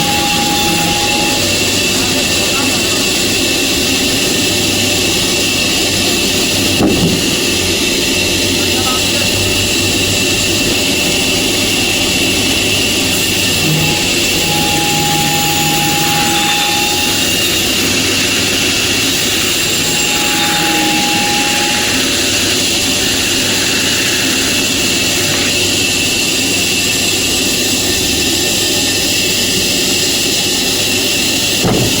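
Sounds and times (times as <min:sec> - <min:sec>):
faint machine whine: 0:00.0 - 0:27.9
sawmill machinery drone: 0:00.0 - 0:32.0.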